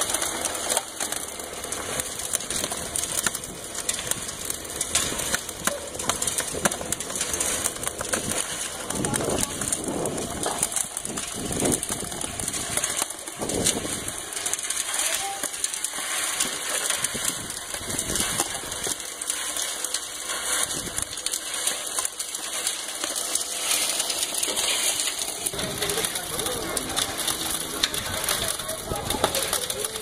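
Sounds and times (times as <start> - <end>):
sand and pebbles tumbling: 0.0 - 30.0
sand sieving machine running: 0.0 - 30.0.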